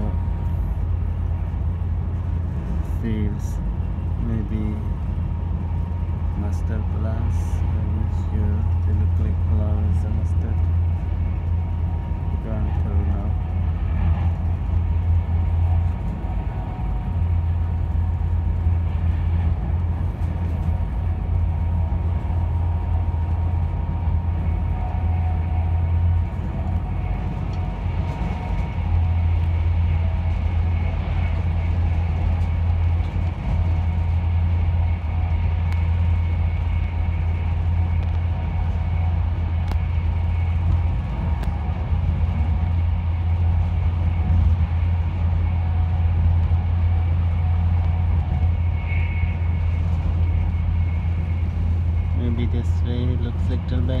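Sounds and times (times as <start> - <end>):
faint steady whine: 0.0 - 54.0
passenger train rumbling: 0.0 - 54.0.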